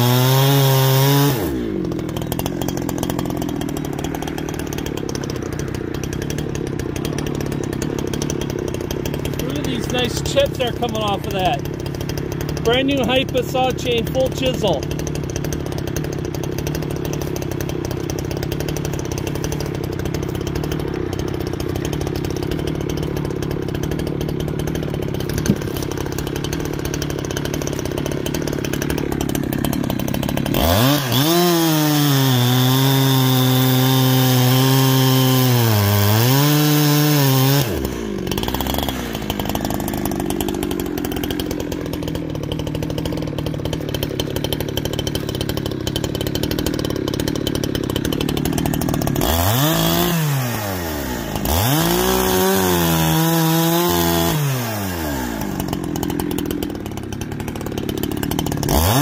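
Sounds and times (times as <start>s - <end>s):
chainsaw cutting log: 0.0s - 59.0s
chainsaw idling: 0.0s - 59.0s.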